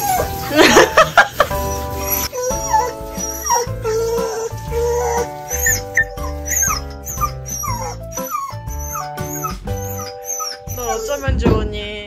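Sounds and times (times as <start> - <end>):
dog whimpering: 0.0 - 0.5, 1.6 - 11.5
background music: 0.0 - 12.0.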